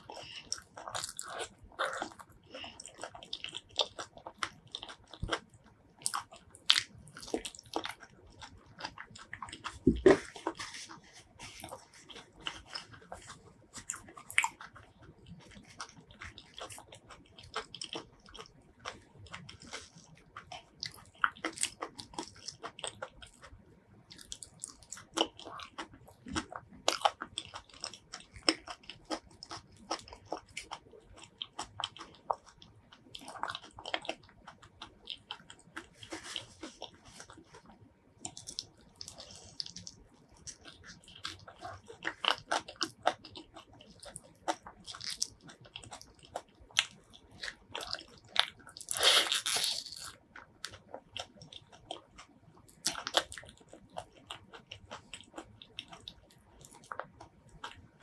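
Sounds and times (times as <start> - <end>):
mouth clicks and pops while chewing: 0.0 - 58.0.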